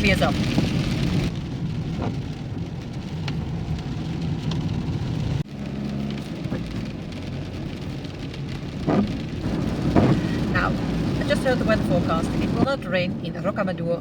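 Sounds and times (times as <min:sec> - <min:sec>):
car engine and road hum: 0:00.0 - 0:14.0
rain falling on a car: 0:00.0 - 0:14.0.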